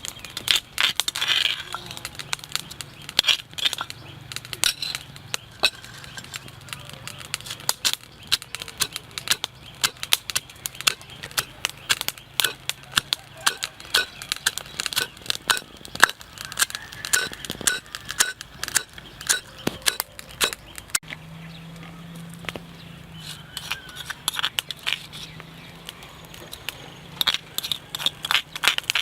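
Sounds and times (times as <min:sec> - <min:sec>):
sharp clicks and snaps: 0:00.0 - 0:29.0.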